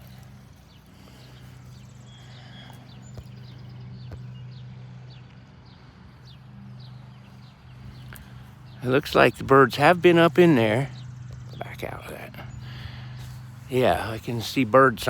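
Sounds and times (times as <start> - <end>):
bird chirping: 0.0 - 15.0
steady low hum: 0.0 - 15.0.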